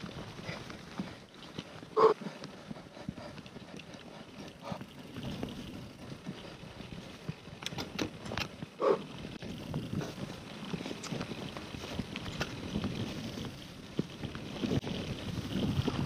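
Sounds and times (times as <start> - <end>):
bike rattling: 0.0 - 16.0
bike tyre noise on trail: 0.0 - 16.0.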